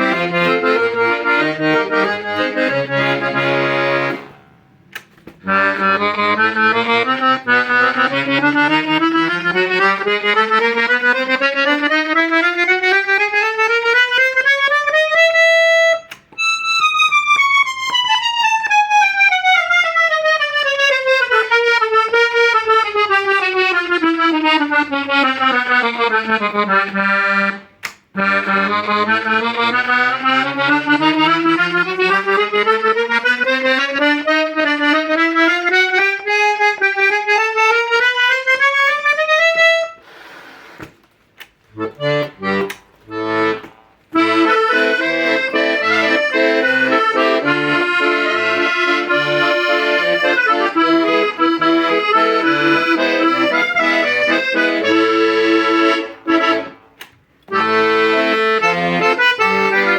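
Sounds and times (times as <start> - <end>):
accordion chords with bass: 0.0 - 41.0, 41.6 - 59.9
accordion scale: 0.0 - 59.9.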